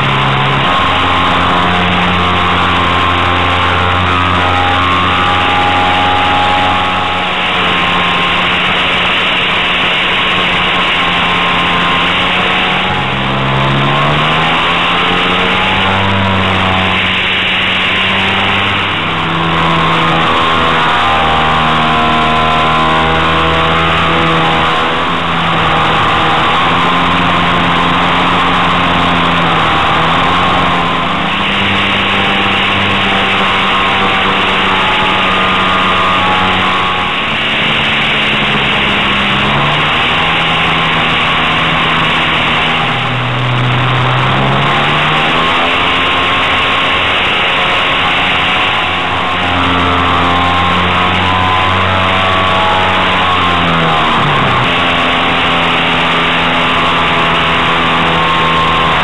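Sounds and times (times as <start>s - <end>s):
model aircraft motor drone: 0.0s - 59.0s.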